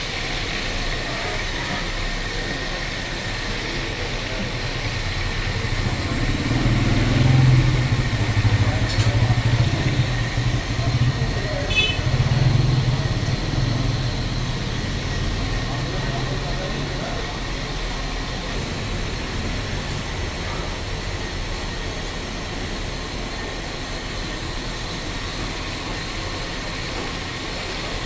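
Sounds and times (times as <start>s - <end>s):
street noise: 0.0s - 28.0s
vehicle engine running: 0.0s - 28.0s.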